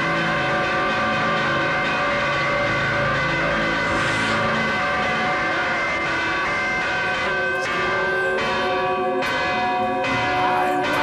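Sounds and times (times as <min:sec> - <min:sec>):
church bells pealing: 0:00.0 - 0:11.0.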